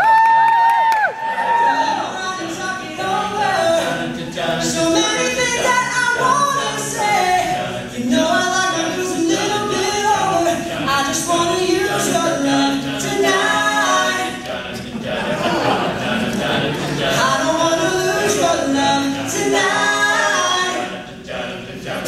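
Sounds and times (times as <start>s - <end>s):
men singing a cappella: 1.4s - 22.0s.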